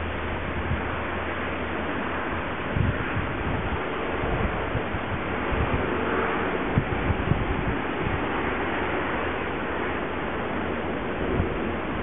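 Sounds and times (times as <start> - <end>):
wind on microphone: 0.0 - 12.0
low thumps from gusts: 2.1 - 12.0.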